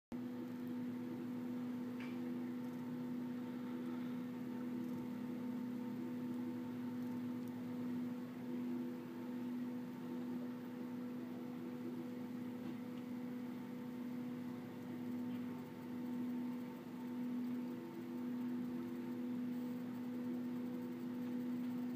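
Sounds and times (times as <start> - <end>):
steady machine hum: 0.1 - 21.9.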